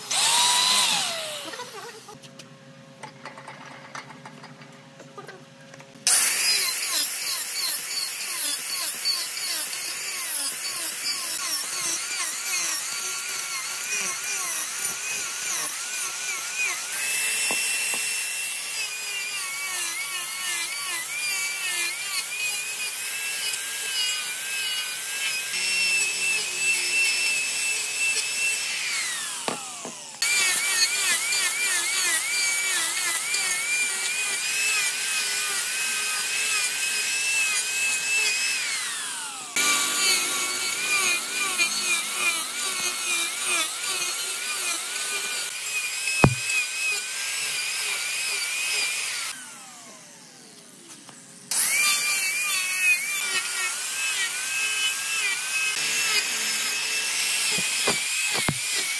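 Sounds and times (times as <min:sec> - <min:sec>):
angle grinder grinding wood: 0:00.0 - 0:02.2, 0:06.0 - 0:58.9.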